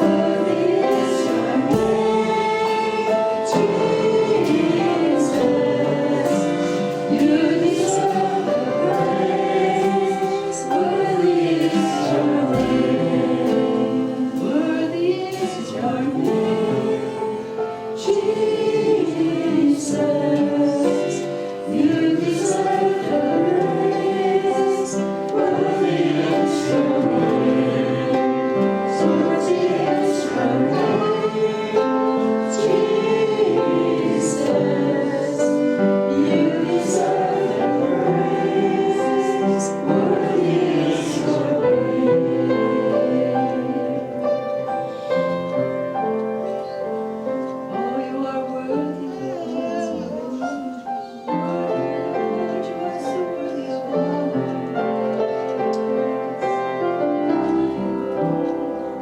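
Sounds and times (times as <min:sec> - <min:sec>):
group singing worship song: 0:00.0 - 0:59.0.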